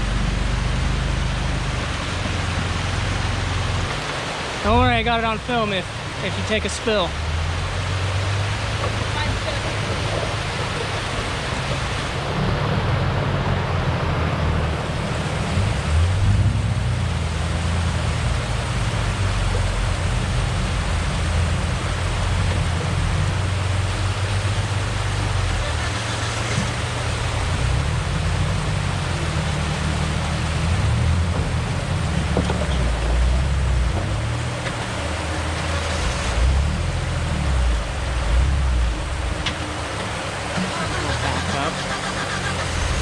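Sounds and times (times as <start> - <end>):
truck engine at low revs: 0.0 - 43.0.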